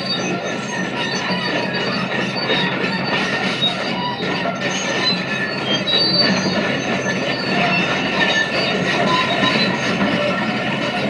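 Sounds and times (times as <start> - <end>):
diesel engine running: 0.0 - 11.0
steel tracks squealing and clanking: 0.0 - 11.0.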